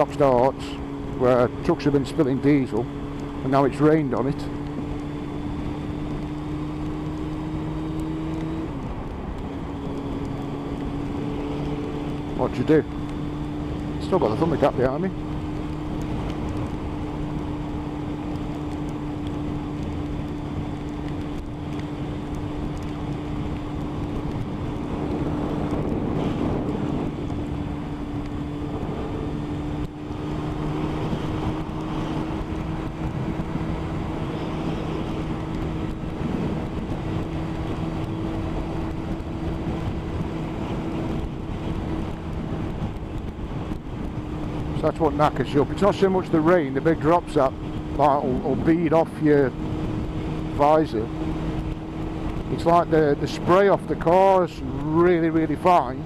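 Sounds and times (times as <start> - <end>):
motorcycle engine cruising: 0.0 - 56.0
wet road noise: 0.0 - 56.0.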